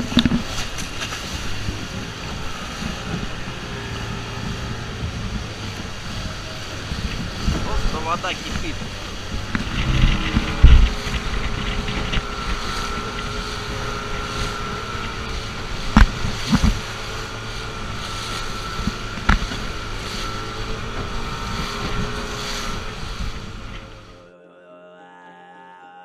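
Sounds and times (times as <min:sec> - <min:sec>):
motorboat engine running: 0:00.0 - 0:24.2
wind buffeting microphone: 0:00.0 - 0:24.2.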